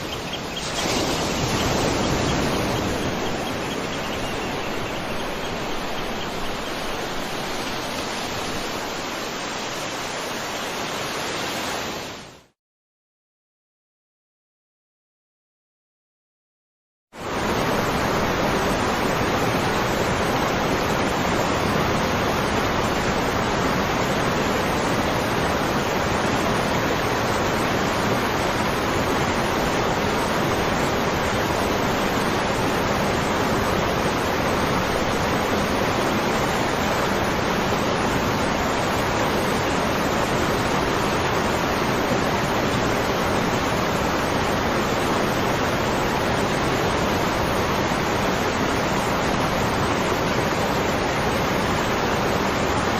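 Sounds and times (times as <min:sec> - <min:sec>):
waterfall rushing: 0:00.0 - 0:12.3, 0:17.2 - 0:52.9.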